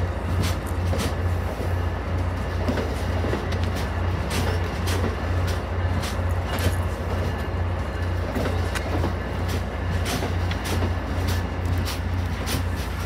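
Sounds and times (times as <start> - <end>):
train wheels rumbling on rails: 0.0 - 13.0
sharp rail clicks: 0.3 - 13.0.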